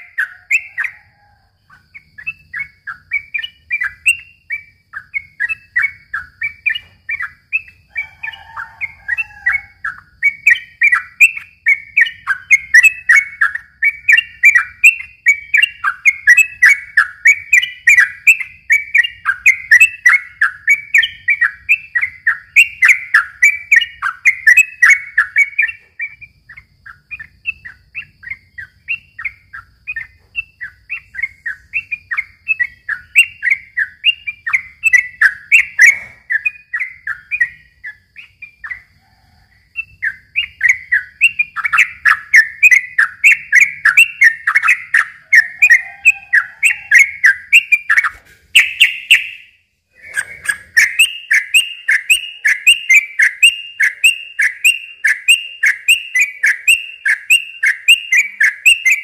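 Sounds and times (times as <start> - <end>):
bulbul chattering song: 0.0 - 59.0.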